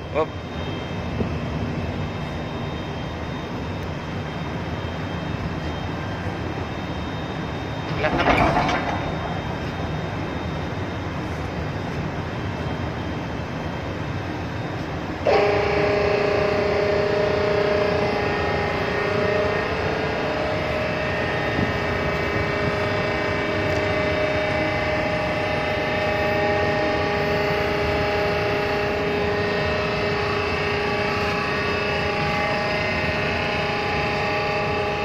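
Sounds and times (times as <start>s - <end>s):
steady whining tones: 0.0s - 35.0s
winch machine hum: 5.2s - 35.0s.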